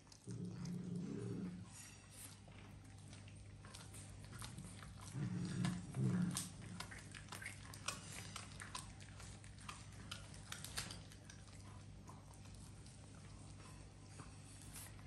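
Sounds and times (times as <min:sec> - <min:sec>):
cats chewing meat: 0:00.0 - 0:15.0.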